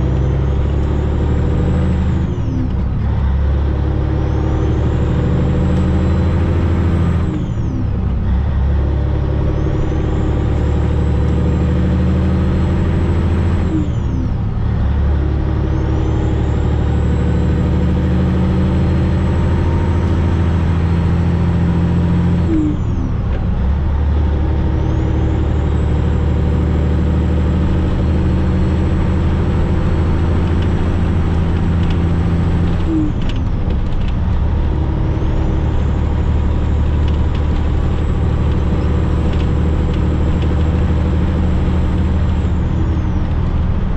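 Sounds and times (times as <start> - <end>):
truck diesel engine pulling hard: 0.0 - 43.9.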